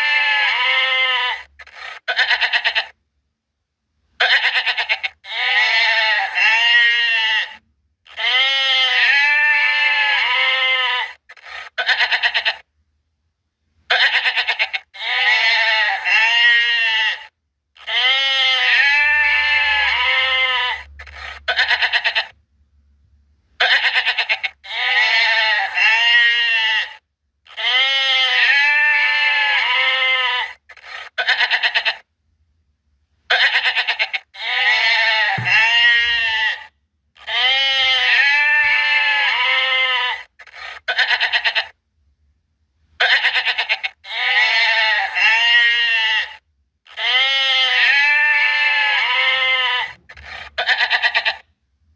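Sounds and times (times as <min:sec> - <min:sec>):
goats bleating: 0:00.0 - 0:03.0, 0:04.2 - 0:12.6, 0:13.9 - 0:22.4, 0:23.6 - 0:32.0, 0:33.3 - 0:41.8, 0:43.0 - 0:51.4.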